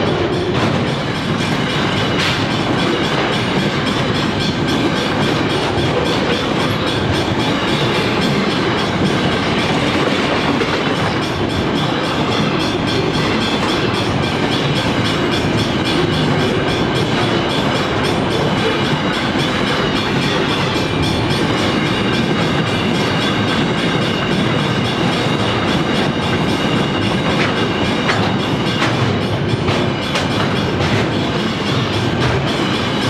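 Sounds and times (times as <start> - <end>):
steel wheels rumbling on rail: 0.0 - 33.0
wheels clicking over rail joints: 0.0 - 33.0.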